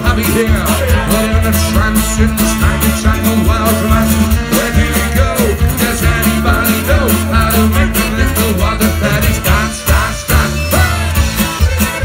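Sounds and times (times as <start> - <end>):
live folk band playing: 0.0 - 12.0.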